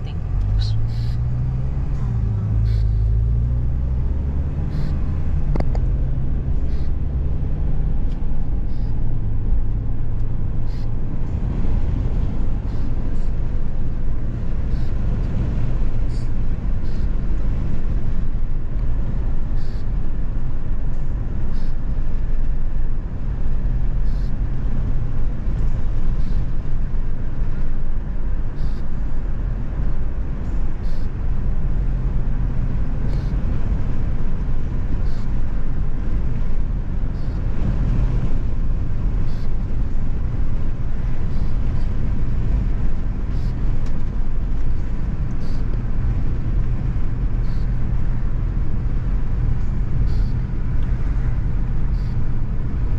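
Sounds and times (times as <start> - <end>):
car driving rumble: 0.0 - 52.9.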